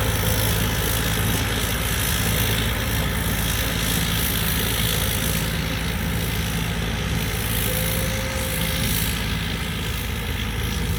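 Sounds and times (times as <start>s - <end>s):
combine harvester engine droning: 0.0s - 10.9s.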